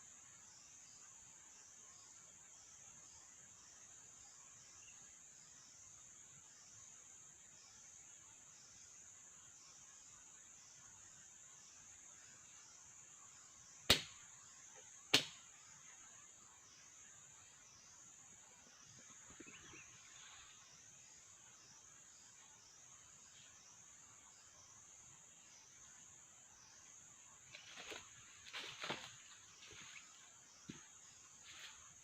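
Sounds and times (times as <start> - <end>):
pulsing insect chorus: 0.0 - 32.0.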